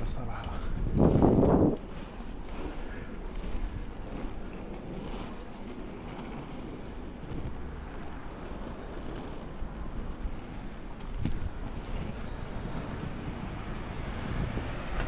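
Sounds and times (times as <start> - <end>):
skate wheels rolling on pavement: 0.0 - 15.0
wind noise on microphone: 0.0 - 15.0.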